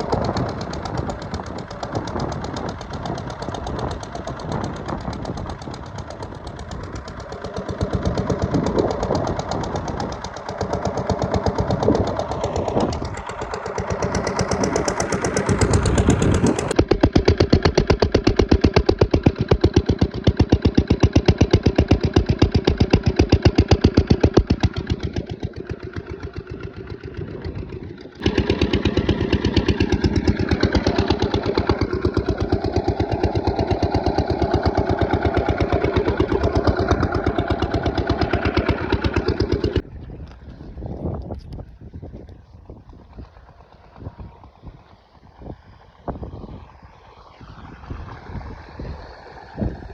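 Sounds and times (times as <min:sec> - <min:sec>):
diesel pump engine chugging: 0:00.0 - 0:49.9.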